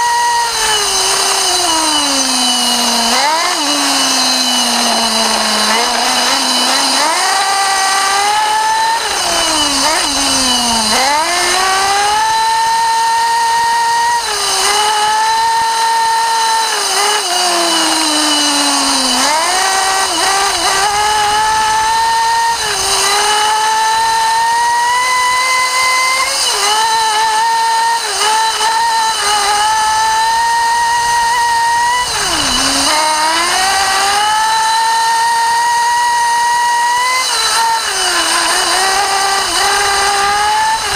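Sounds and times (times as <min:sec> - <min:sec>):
nitro engine revving: 0:00.0 - 0:40.9.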